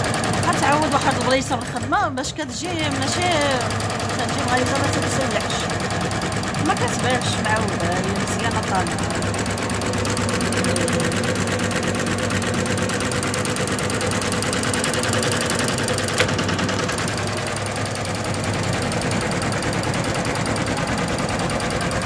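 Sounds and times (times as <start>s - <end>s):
embroidery machine stitching: 0.0s - 22.0s.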